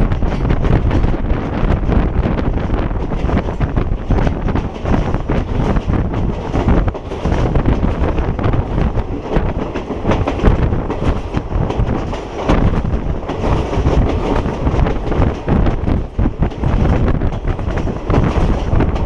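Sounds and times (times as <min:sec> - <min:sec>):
diesel train rumbling: 0:00.0 - 0:19.0
wheels clattering over rails: 0:00.0 - 0:19.0.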